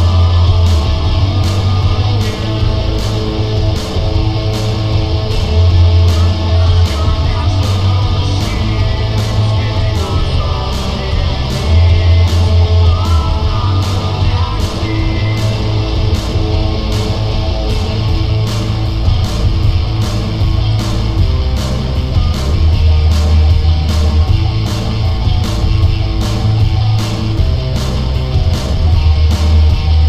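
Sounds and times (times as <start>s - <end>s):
rock music with guitar and drums: 0.0s - 30.0s.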